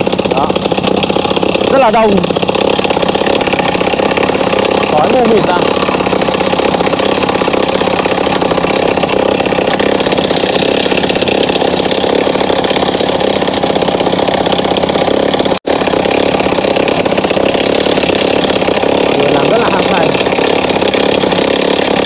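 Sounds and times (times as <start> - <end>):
rock drill hammering into stone: 0.0 - 22.0.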